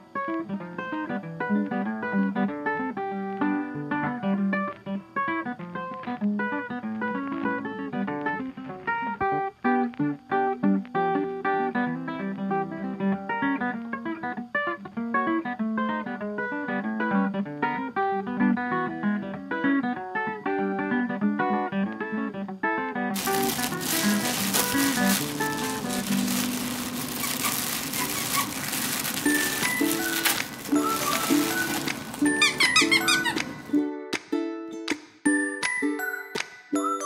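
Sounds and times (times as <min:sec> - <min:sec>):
plucked guitar music: 0:00.0 - 0:27.8, 0:28.6 - 0:34.9.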